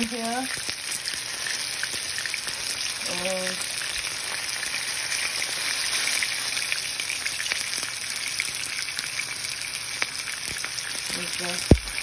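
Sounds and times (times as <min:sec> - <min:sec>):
steak sizzling in frying pan: 0:00.0 - 0:12.0.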